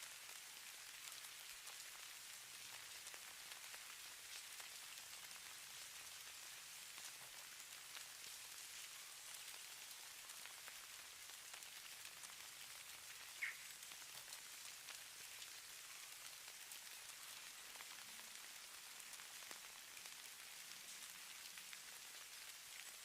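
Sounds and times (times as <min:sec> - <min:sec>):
falling snow hiss and ticking: 0:00.0 - 0:23.0.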